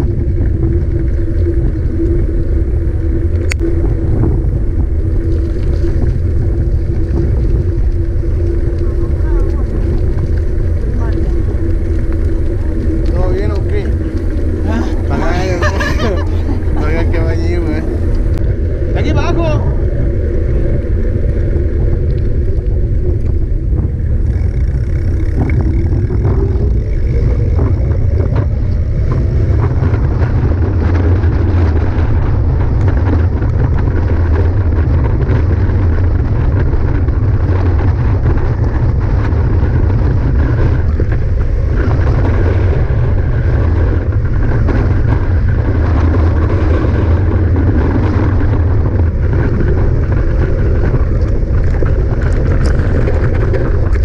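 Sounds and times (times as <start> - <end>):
bike clicks and rattles: 0.0 - 18.5, 20.6 - 54.0
wind buffeting microphone: 0.0 - 54.0.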